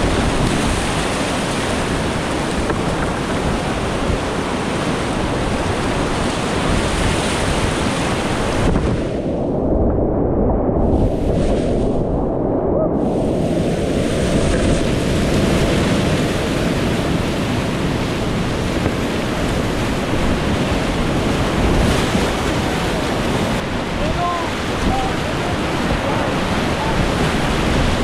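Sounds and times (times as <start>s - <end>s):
rapids roaring: 0.0s - 9.6s, 11.0s - 28.0s.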